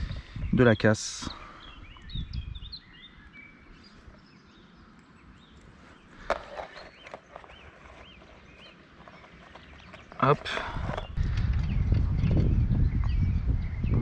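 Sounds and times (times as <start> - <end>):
faint outdoor background noise: 0.0 - 11.6
small birds chirping: 0.0 - 14.0.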